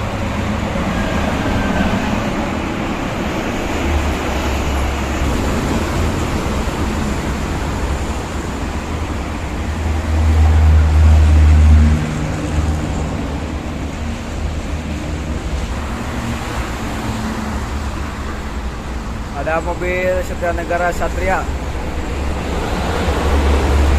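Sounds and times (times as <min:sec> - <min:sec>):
highway traffic passing: 0:00.0 - 0:23.9.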